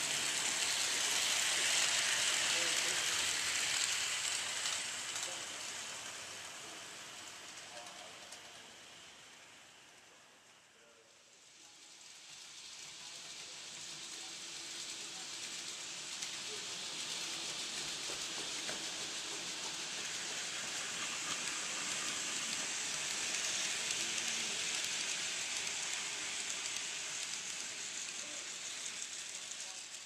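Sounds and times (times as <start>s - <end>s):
model train wheels on rails: 0.0s - 30.0s.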